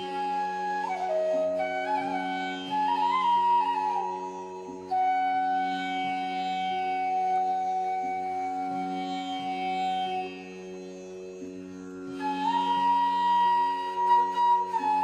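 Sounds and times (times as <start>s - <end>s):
flute melody over drone: 0.0s - 15.0s.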